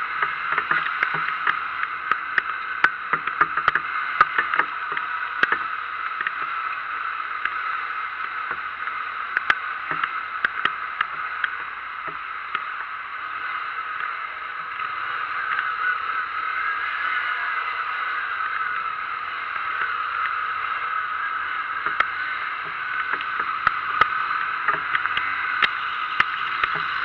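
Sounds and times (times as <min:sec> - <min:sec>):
raindrops tapping close by: 0:00.0 - 0:27.0
steady rain: 0:00.0 - 0:27.0.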